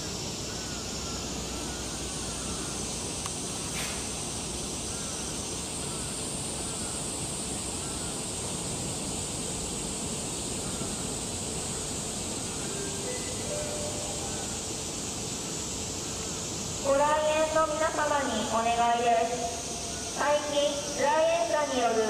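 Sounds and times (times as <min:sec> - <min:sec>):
constant high-pitched hiss: 0:00.0 - 0:22.0.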